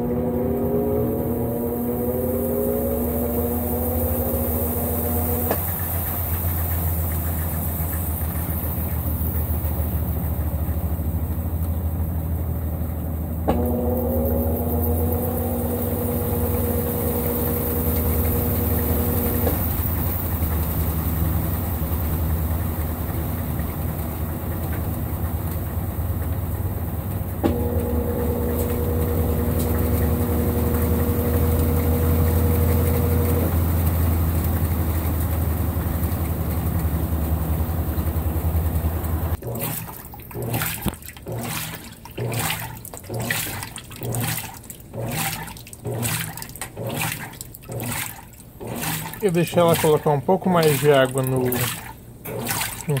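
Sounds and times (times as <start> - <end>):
washing machine spinning: 0.0 - 53.0
washing machine water sloshing: 0.0 - 53.0.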